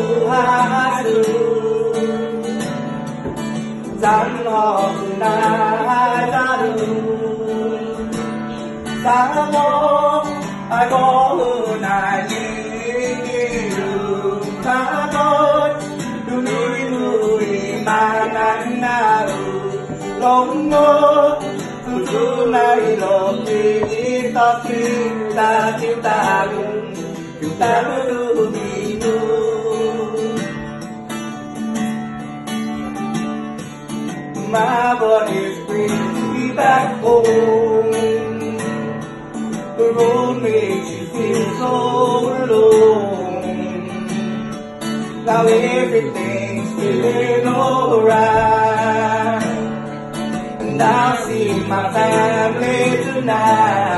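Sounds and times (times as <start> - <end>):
person singing: 0.0 - 30.7, 34.4 - 39.0, 39.8 - 44.3, 45.1 - 53.9
acoustic guitar playing: 0.0 - 53.9.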